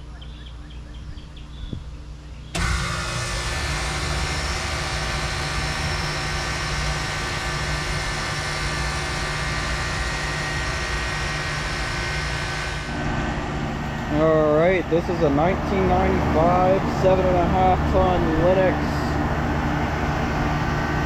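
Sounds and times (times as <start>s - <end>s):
compressor hum: 0.0s - 21.0s
fan air rushing: 1.2s - 21.0s.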